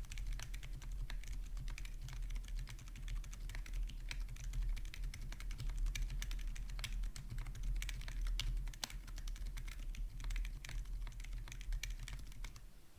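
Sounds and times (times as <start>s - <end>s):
mechanical keyboard typing: 0.0s - 12.6s.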